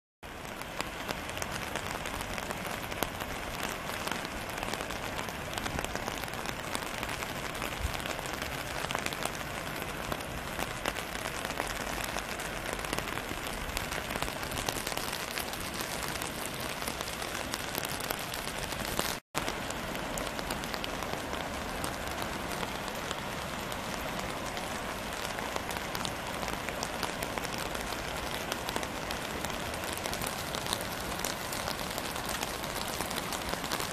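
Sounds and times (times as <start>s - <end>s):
rain: 0.2s - 33.9s
running floodwater: 0.2s - 33.9s.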